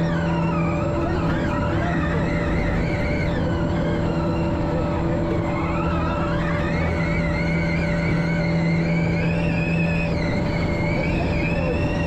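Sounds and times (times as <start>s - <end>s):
electric drive whine: 0.0s - 12.0s
petrol engine drone: 0.0s - 12.0s.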